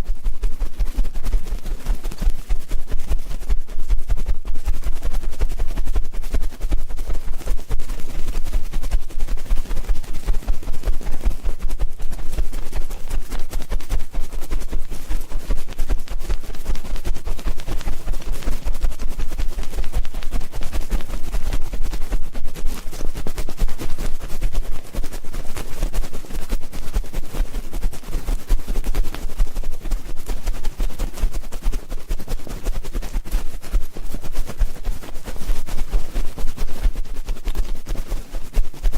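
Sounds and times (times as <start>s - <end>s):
scratching and crackling on microphone: 0.0s - 38.9s.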